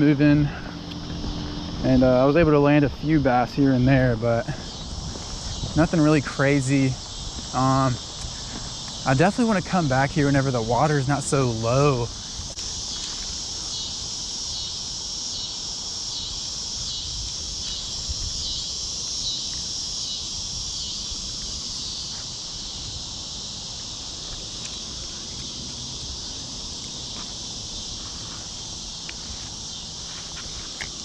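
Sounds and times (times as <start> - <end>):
high insect chorus: 0.0 - 31.0
low rumbling outdoor background: 0.0 - 31.0.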